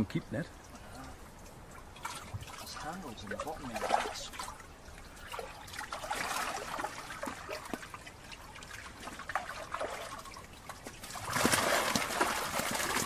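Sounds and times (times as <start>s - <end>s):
water trickling and splashing: 0.0s - 13.0s
water pouring: 0.5s - 13.0s.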